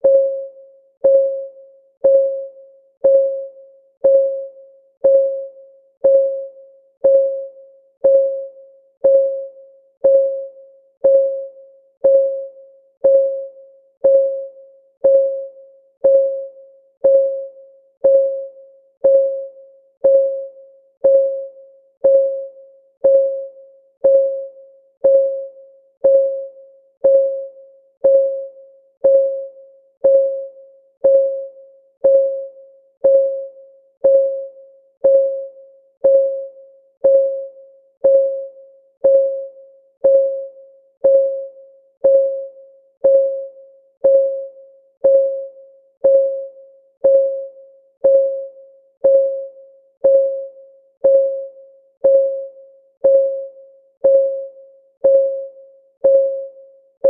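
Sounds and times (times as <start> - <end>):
clock ticking with ringing tone: 0.0 - 57.0.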